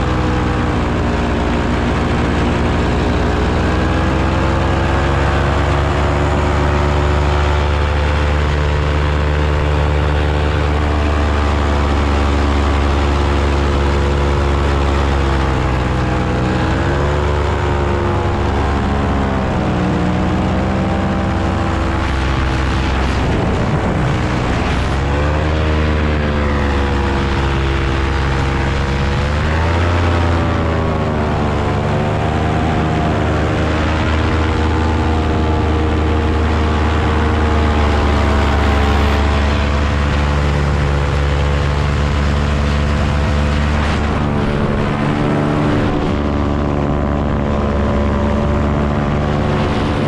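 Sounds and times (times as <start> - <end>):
paramotor engine and propeller running: 0.0 - 50.0
wind noise: 0.0 - 50.0.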